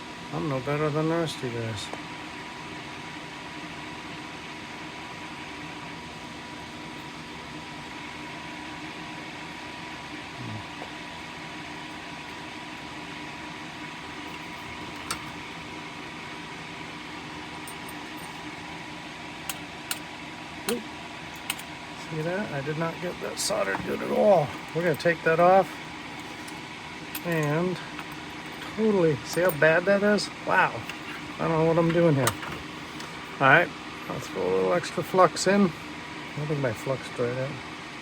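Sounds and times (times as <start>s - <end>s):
fan motor whirring hum: 0.0s - 38.0s
thin steady whine: 0.0s - 38.0s.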